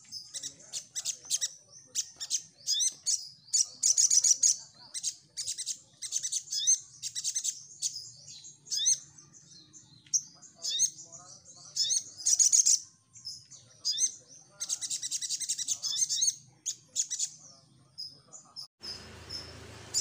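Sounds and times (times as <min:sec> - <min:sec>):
sunbird chirping and trilling: 0:00.0 - 0:20.0.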